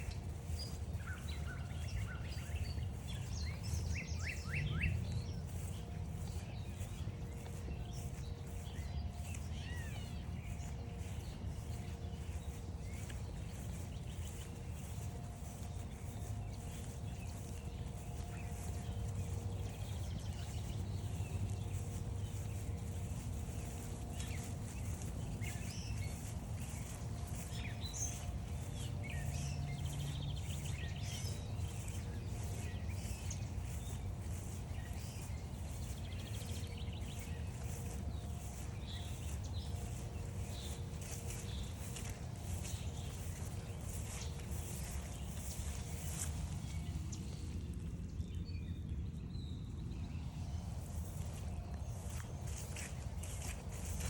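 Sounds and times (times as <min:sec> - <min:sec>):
low outdoor rumble: 0:00.0 - 0:54.0
songbirds chirping: 0:00.0 - 0:54.0.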